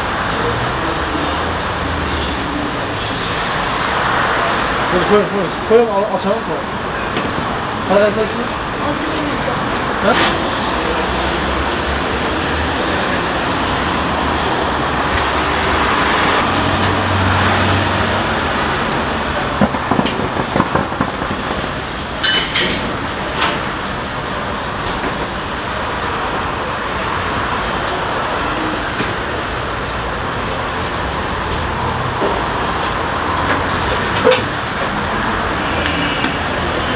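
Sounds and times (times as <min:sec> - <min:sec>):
street traffic noise: 0:00.0 - 0:36.9.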